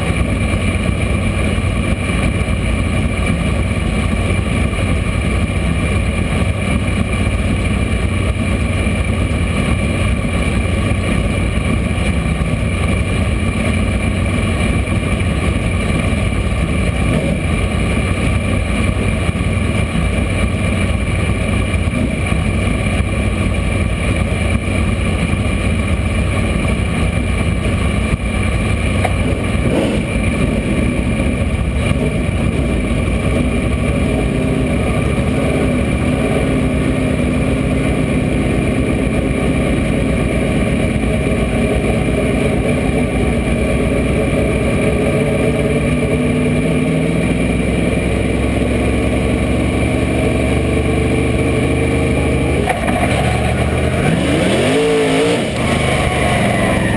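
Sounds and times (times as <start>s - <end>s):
race car engine idling: 0.0s - 56.9s.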